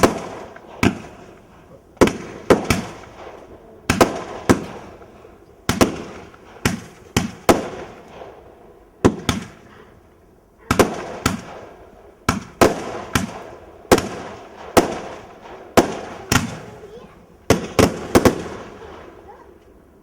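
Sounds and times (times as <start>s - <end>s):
fireworks bangs with echo: 0.0s - 19.9s.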